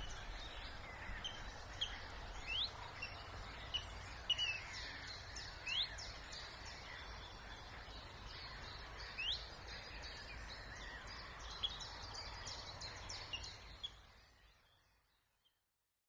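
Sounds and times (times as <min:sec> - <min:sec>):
songbirds chirping and trilling: 0:00.0 - 0:15.6.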